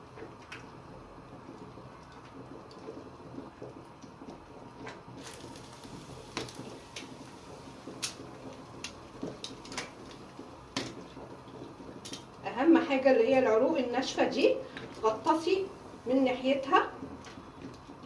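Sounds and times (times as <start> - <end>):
water bubbling in a pot: 0.0 - 18.0.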